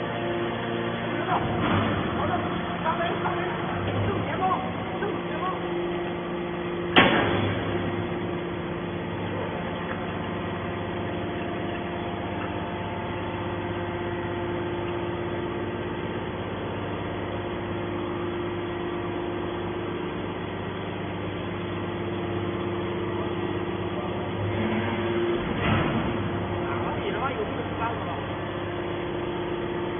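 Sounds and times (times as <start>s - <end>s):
hydraulic pump motor humming: 0.0s - 29.9s.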